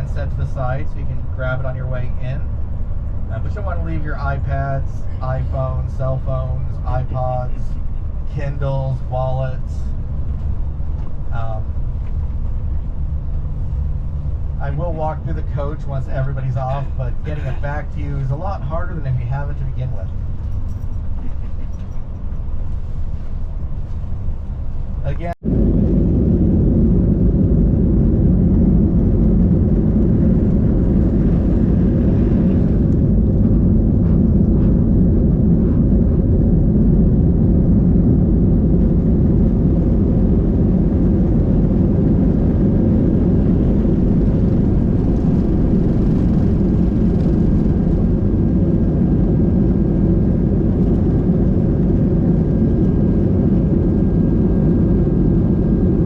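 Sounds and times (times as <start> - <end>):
faint steady whine: 0.0 - 56.0
vehicle rumble from inside: 0.0 - 56.0.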